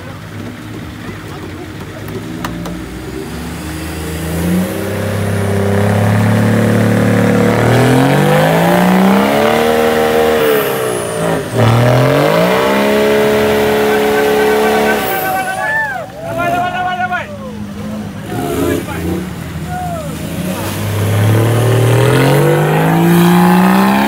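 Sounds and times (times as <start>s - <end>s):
buggy engine revving hard: 0.0s - 24.0s.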